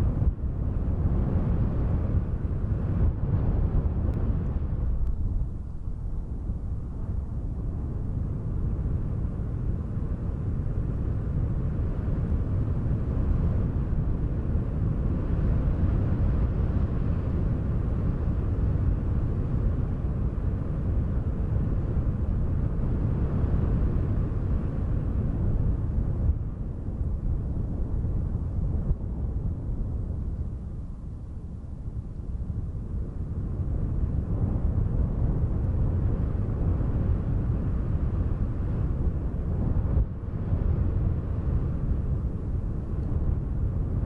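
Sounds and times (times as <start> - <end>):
deep wind noise: 0.0 - 44.0.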